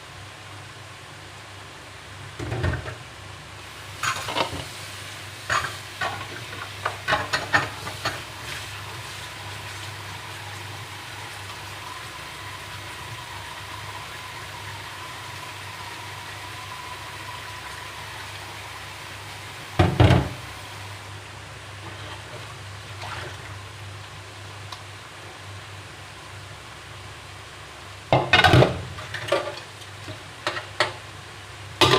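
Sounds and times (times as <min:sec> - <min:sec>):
steady cooking hiss: 0:00.0 - 0:31.9.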